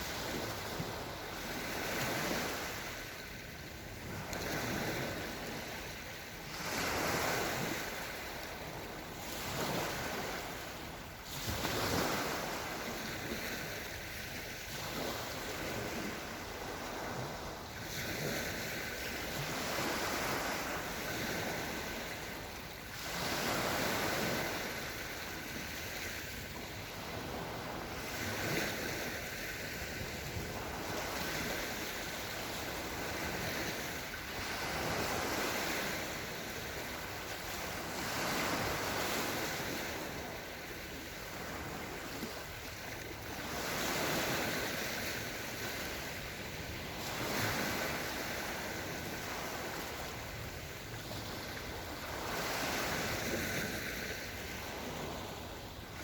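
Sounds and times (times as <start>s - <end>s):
small waves washing onto shore: 0.0s - 56.0s.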